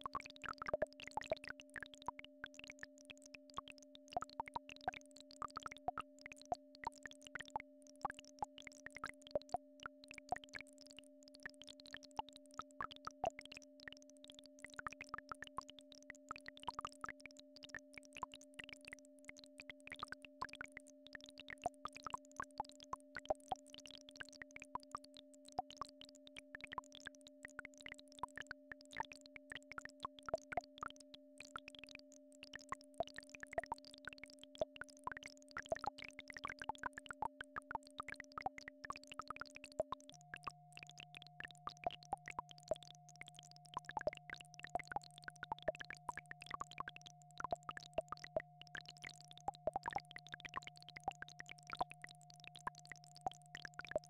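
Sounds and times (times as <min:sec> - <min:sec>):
short irregular clicks and pips: 0:00.0 - 0:54.0.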